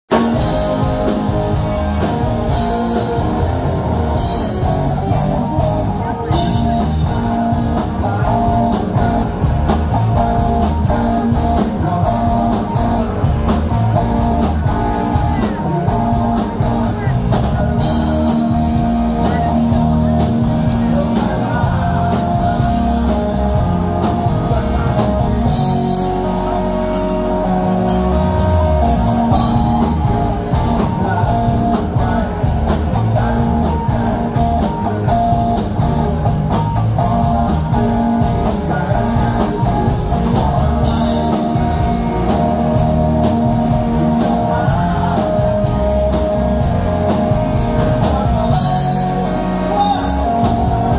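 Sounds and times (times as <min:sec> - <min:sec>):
bass guitar: 0:00.0 - 0:50.9
drum kit: 0:00.0 - 0:50.9
electric guitar: 0:00.1 - 0:50.9
man singing: 0:00.1 - 0:50.9.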